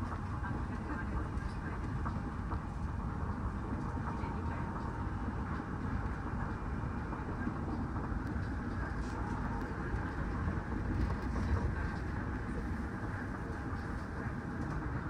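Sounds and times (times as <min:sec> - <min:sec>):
train running gear rumble: 0:00.0 - 0:15.0.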